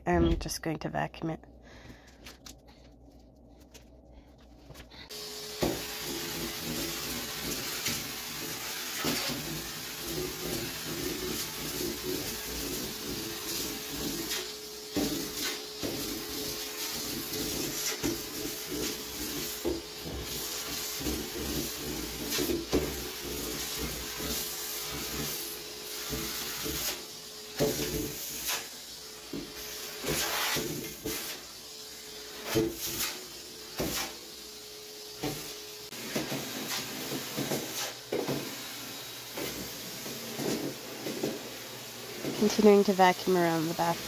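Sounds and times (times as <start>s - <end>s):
vacuum cleaner running: 5.0s - 44.0s.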